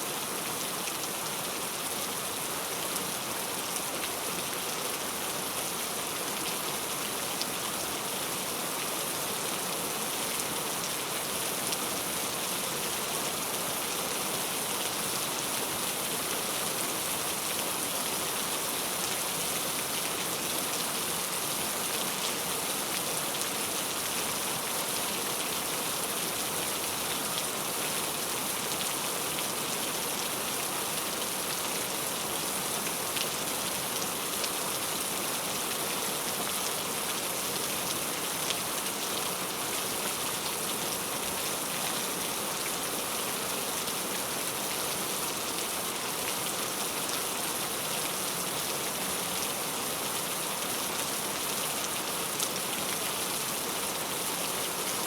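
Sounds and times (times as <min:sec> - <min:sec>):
heavy rain on hard surface: 0:00.0 - 0:55.0.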